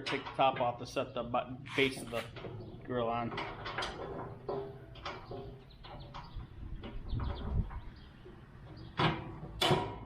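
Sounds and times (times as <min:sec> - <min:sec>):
metal clunks and knocks: 0:00.0 - 0:00.9, 0:01.9 - 0:10.0.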